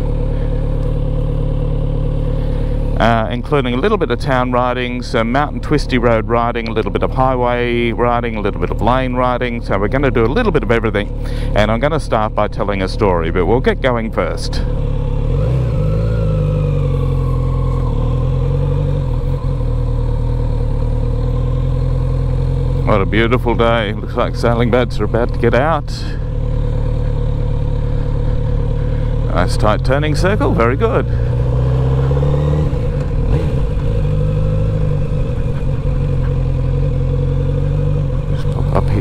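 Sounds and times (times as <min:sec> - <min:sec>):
motorcycle engine at low revs: 0:00.0 - 0:39.0.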